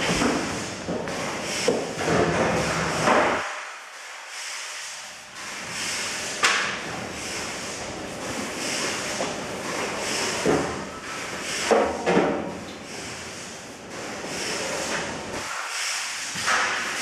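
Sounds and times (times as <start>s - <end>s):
broom sweeping metal floor: 0.0s - 17.0s.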